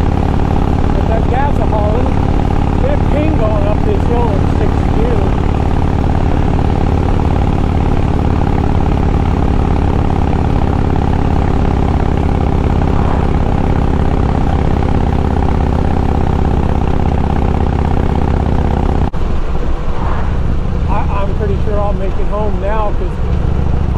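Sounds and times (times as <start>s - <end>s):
motorcycle engine under load: 0.0s - 23.9s.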